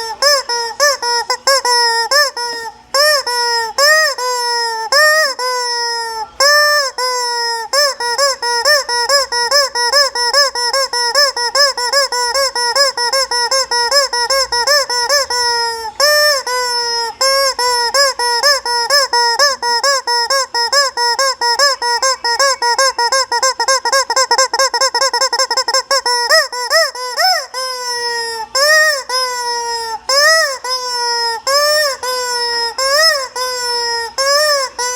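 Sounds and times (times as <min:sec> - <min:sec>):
toy chicken squawking: 0:00.0 - 0:34.9.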